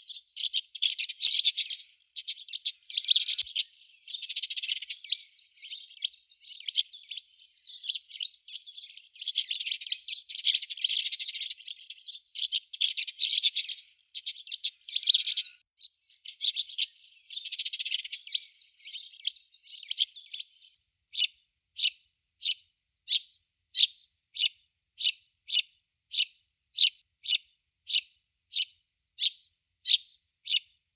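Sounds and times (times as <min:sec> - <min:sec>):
sparrows chirping: 0:00.0 - 0:30.8.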